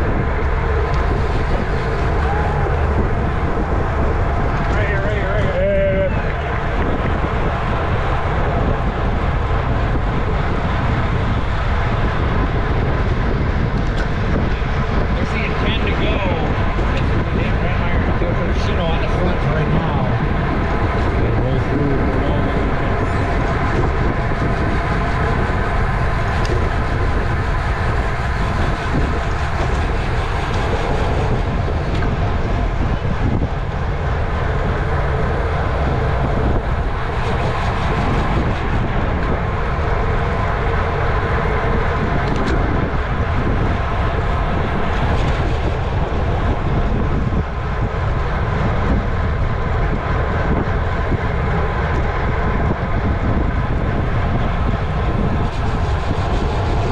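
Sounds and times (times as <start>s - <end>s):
bicycle whir: 0.0s - 56.9s
wind rushing over microphone: 0.0s - 56.9s.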